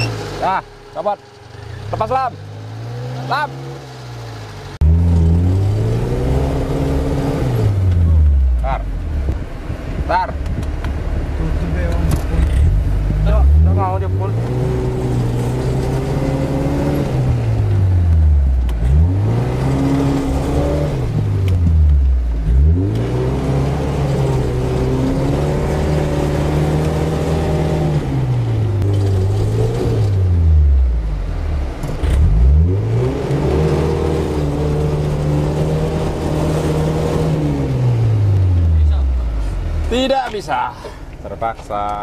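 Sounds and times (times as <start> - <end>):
engine revving: 0.0 - 9.4, 10.0 - 40.5.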